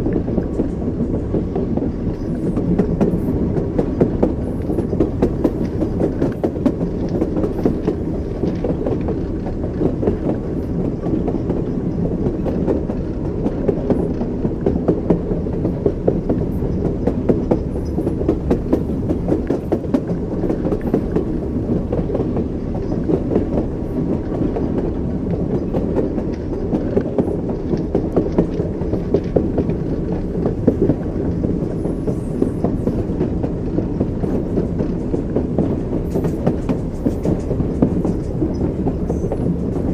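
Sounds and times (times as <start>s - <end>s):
railway carriage rumble: 0.0s - 39.9s
train wheels clattering: 0.0s - 39.9s.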